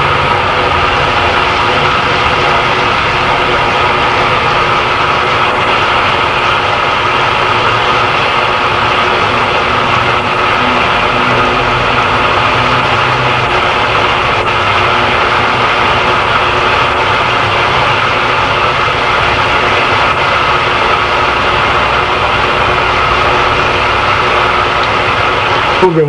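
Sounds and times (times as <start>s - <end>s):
machine whirring and humming: 0.0s - 26.0s.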